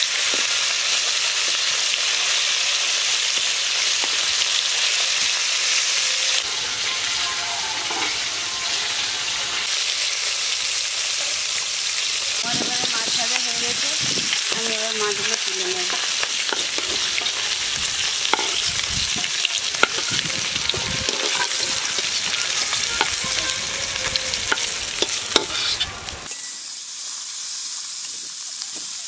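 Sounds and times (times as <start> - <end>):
fish frying in oil: 0.0 - 29.0.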